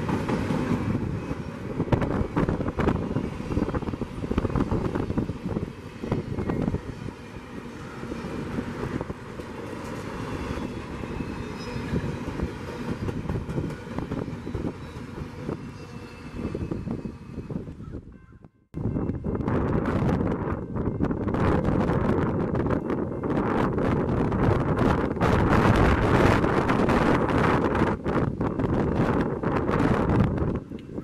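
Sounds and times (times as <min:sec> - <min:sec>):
train wheels rumbling on rails: 0:00.0 - 0:17.8, 0:18.8 - 0:31.0.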